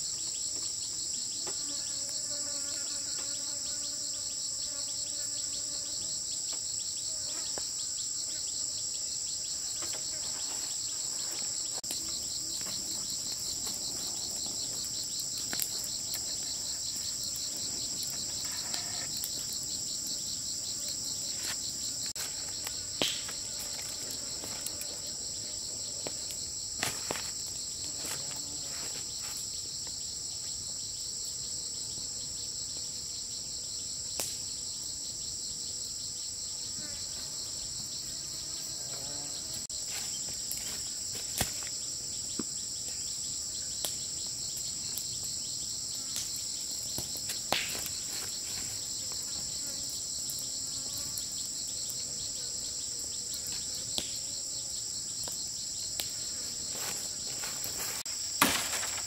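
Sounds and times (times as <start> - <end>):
shrill insect chorus: 0.0 - 59.0.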